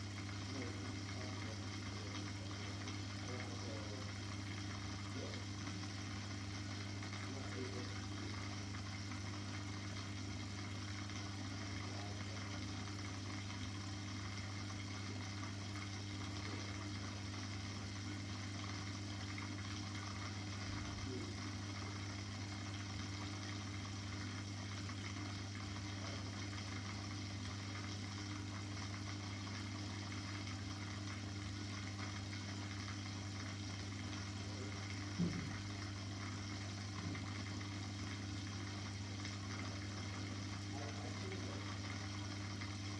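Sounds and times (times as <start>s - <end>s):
aquarium filter pump humming: 0.0s - 42.9s
faint hiss of moving water: 0.0s - 42.9s.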